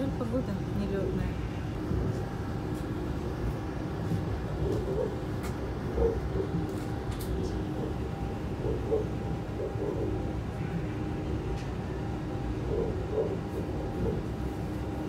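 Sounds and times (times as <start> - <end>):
electric train low rumble: 0.0 - 15.0.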